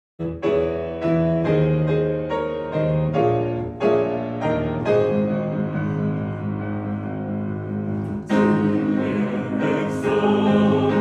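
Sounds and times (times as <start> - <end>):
piano playing chords: 0.2 - 11.0.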